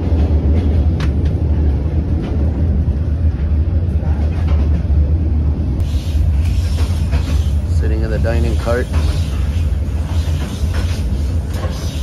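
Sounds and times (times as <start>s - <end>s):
train rumbling inside coach: 0.0s - 12.0s.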